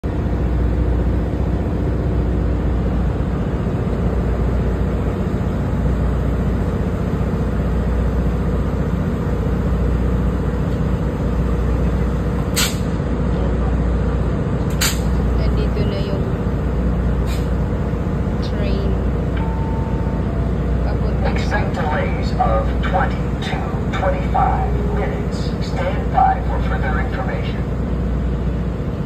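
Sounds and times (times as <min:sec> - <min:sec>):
locomotive engine rumble: 0:00.0 - 0:29.0.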